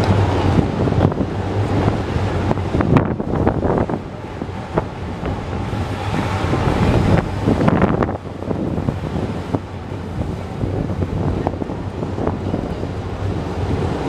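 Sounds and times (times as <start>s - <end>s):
low rumble of city and railway: 0.0s - 14.0s
wind buffeting microphone: 0.0s - 14.0s.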